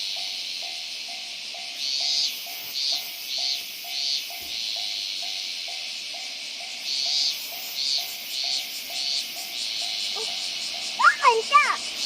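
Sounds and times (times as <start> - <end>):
level-crossing warning bell ringing: 0.0 - 11.4.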